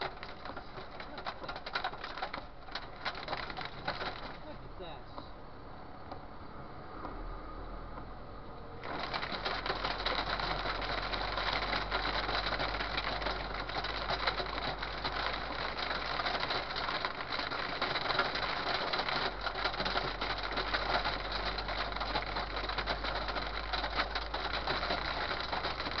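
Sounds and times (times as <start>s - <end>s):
hail and rain drumming on truck: 0.0s - 4.5s, 8.8s - 26.0s.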